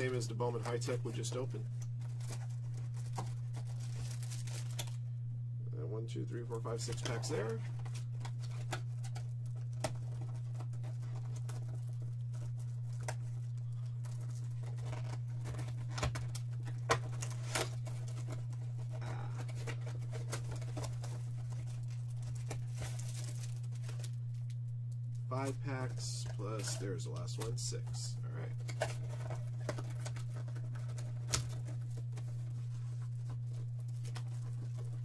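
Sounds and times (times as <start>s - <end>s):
foil packs crinkling: 0.0s - 5.1s, 6.5s - 35.0s
steady low hum: 0.0s - 35.0s.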